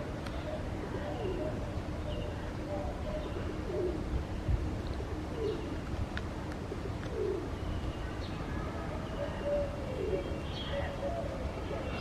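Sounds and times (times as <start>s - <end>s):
bird low falling calls: 0.0s - 5.9s, 6.7s - 12.0s.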